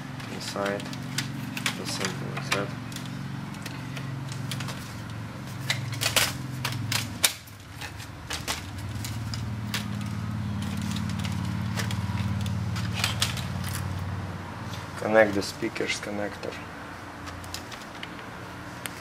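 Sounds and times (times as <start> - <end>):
laptop parts clicking and knocking: 0.1 - 14.0, 16.4 - 19.0.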